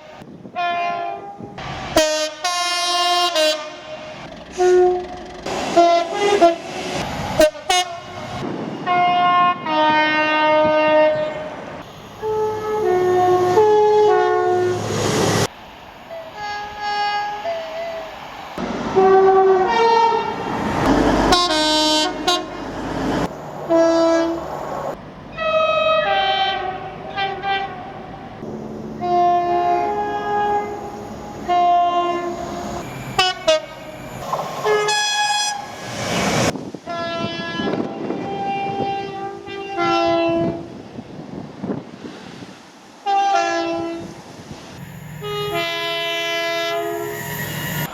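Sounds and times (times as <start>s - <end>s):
train horn two-tone blasts: 0.0s - 6.8s, 7.4s - 14.9s, 16.3s - 22.8s, 23.6s - 24.6s, 25.3s - 35.8s, 36.8s - 40.8s, 43.0s - 44.2s, 44.8s - 47.9s
train passing close by: 0.0s - 47.9s.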